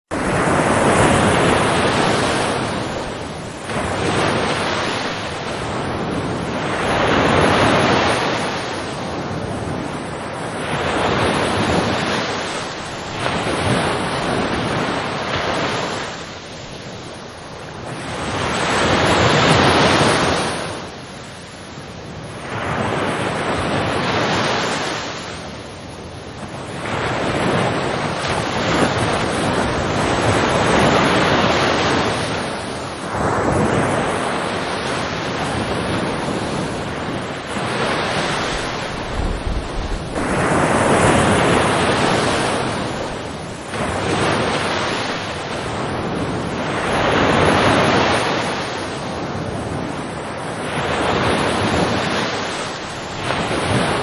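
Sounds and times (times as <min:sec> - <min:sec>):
ocean waves breaking: 0:00.1 - 0:54.0.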